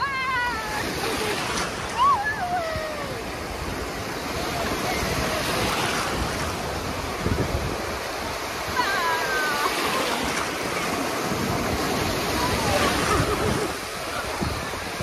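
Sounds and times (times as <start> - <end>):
surf washing in shallows: 0.0 - 15.0
wave breaking close by: 0.0 - 15.0.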